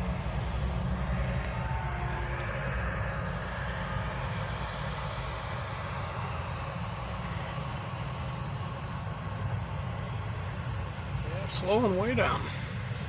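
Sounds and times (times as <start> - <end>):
diesel locomotive passing: 0.0 - 13.0
freight train rumbling past: 0.0 - 13.0.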